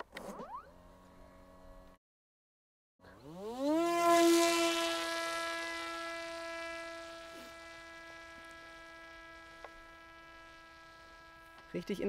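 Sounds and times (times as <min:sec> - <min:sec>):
drone motor whining: 0:00.2 - 0:02.0, 0:03.0 - 0:12.0.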